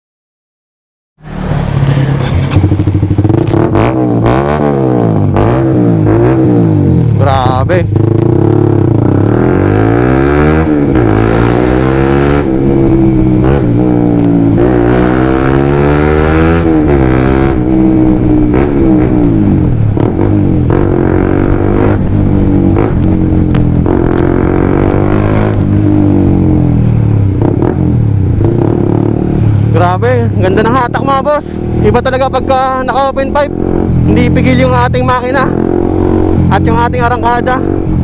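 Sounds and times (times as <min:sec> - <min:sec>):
motorcycle engine revving: 0:01.2 - 0:38.0.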